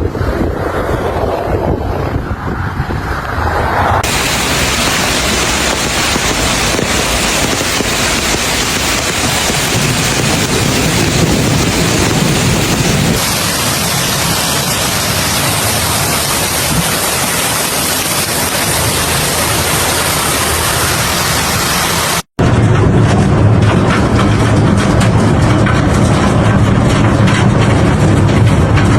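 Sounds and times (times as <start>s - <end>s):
low rumble: 0.0s - 28.9s
hail and rain pelting down: 4.0s - 28.9s.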